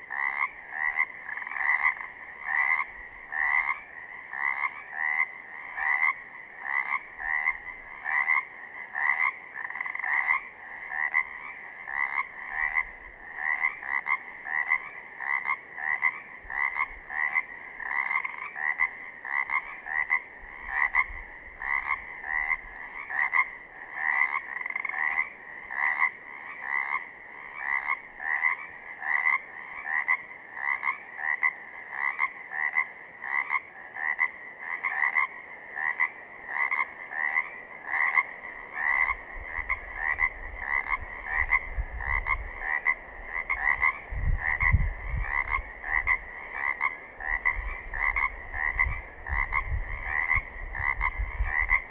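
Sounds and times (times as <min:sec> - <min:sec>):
frogs calling: 0:00.0 - 0:51.9.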